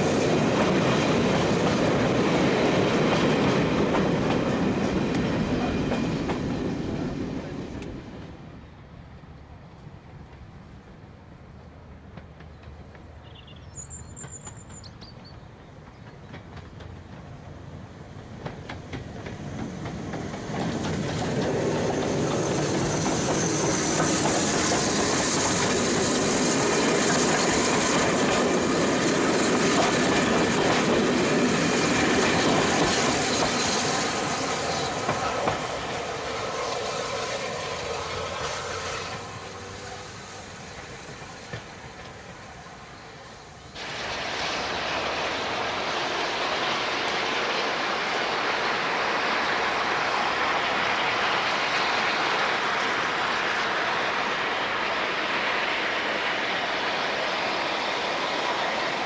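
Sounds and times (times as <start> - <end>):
distant train working: 0.0 - 59.0
steam train passing: 0.0 - 59.0.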